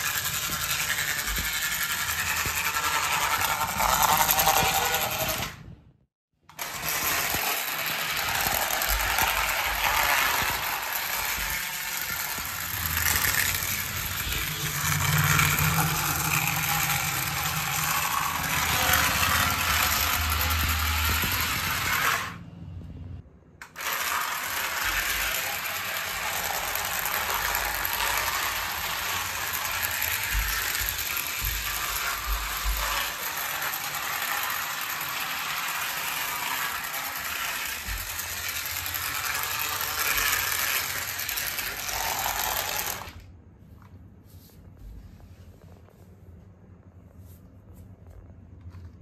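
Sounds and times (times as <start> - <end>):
toy train whirring and rattling: 0.0 - 5.6, 6.5 - 22.4, 23.6 - 43.2.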